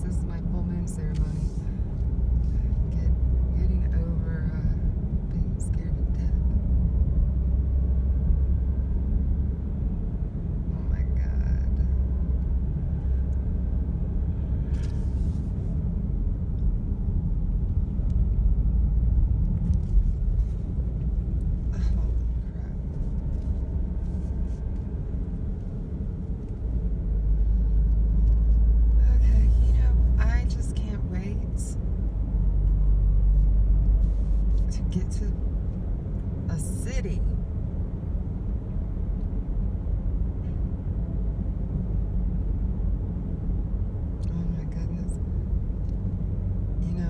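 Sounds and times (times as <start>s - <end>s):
car engine and tyres rumbling: 0.0s - 47.0s.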